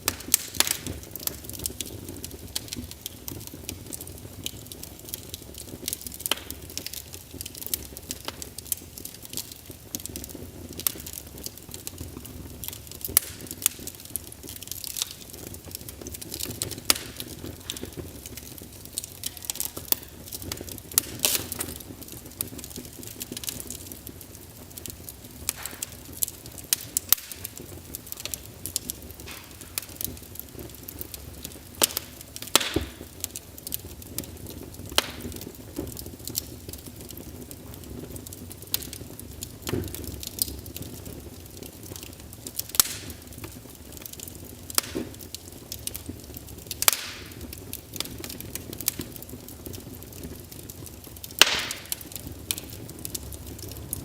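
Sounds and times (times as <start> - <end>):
low hiss of burning: 0.0 - 54.0
wood fire crackling: 0.0 - 54.0.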